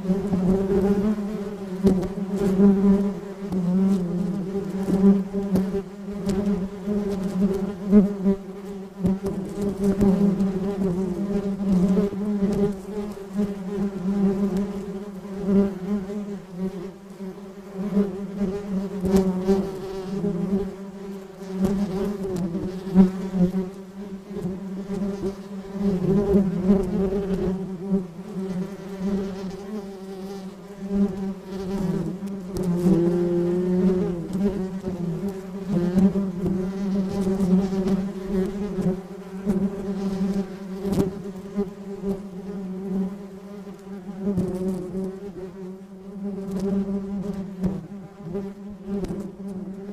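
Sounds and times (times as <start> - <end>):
bee buzzing in flight: 0.0 - 49.9.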